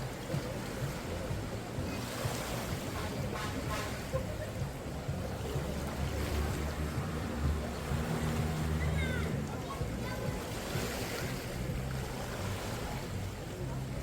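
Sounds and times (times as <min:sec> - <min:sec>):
waves washing on beach: 0:00.0 - 0:14.0.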